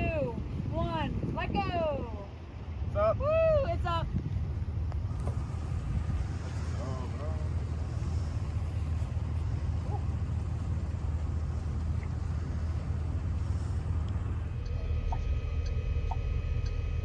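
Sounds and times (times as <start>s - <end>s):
electrical hum: 0.0s - 17.0s
wind buffeting microphone: 0.0s - 17.0s.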